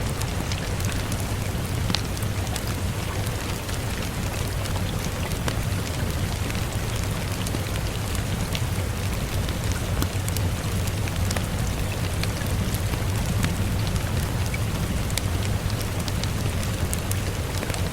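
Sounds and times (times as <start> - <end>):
steady rain: 0.0 - 17.9
wood fire crackling: 0.0 - 17.9.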